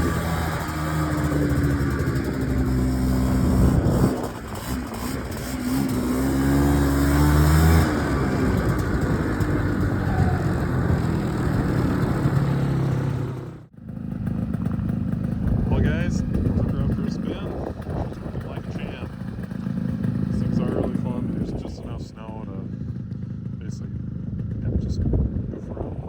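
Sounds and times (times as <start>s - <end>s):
snowmobile engine revving: 0.0s - 13.7s, 14.3s - 22.7s.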